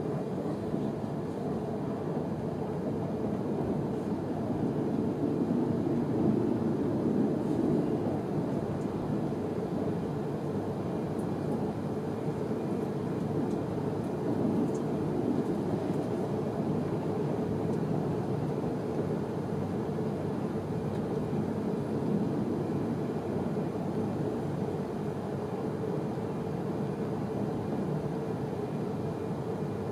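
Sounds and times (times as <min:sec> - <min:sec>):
train interior low rumble: 0:00.0 - 0:29.9.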